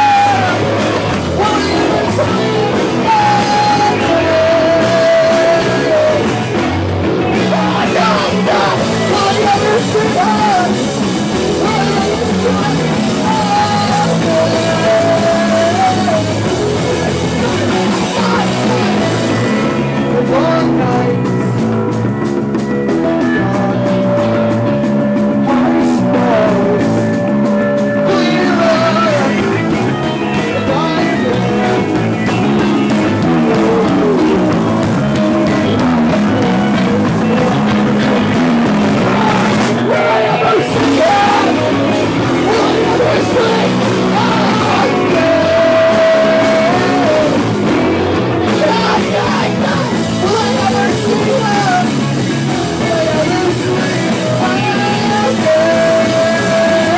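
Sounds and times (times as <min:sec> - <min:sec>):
punk rock band playing: 0:00.0 - 0:56.9.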